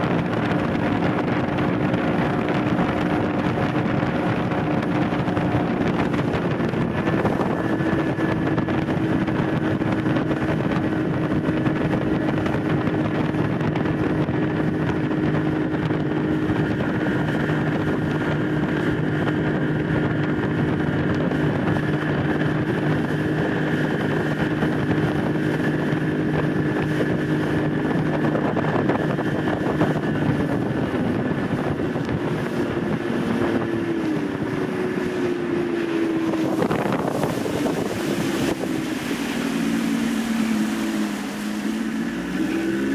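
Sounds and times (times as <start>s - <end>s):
outboard motor running: 0.0s - 42.9s
wind noise on microphone: 0.0s - 42.9s.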